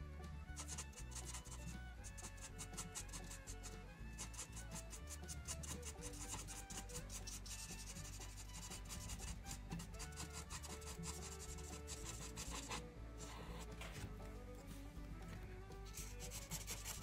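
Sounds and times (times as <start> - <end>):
faint background music: 0.0 - 17.0
marker scrubbing on paper: 0.6 - 14.1, 16.0 - 17.0.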